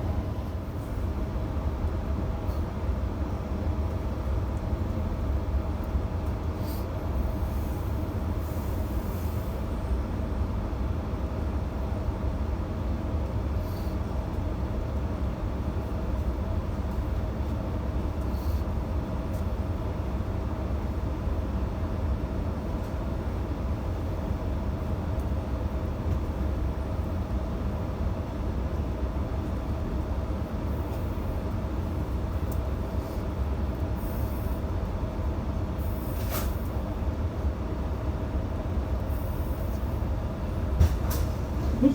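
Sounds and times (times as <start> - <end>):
train rumble and hum: 0.0 - 41.9.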